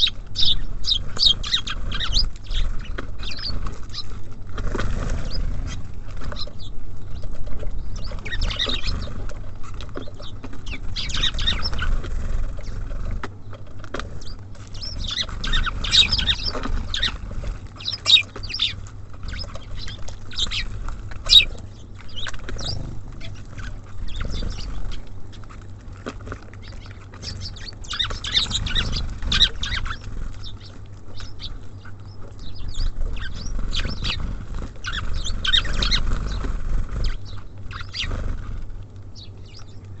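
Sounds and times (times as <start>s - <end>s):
songbirds chirping: 0.0s - 40.0s
steady low rumble: 0.0s - 40.0s.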